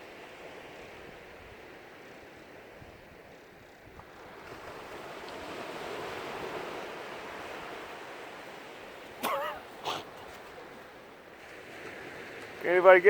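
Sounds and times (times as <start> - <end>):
small waves washing onto sand: 0.0 - 13.0.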